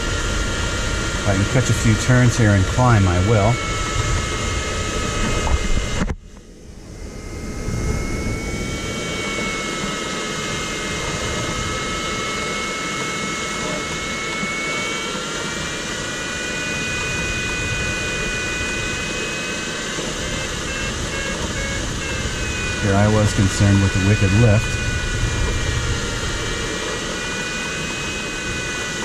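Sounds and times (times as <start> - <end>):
variometer tone: 0.0 - 29.0.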